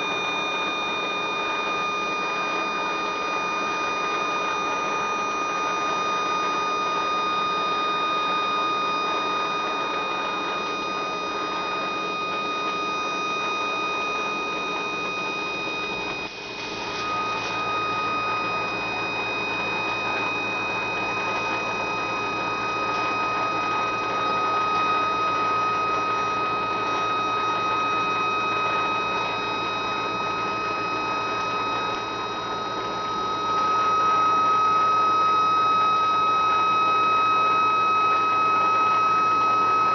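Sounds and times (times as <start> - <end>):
engine singing high tone: 0.0 - 39.9.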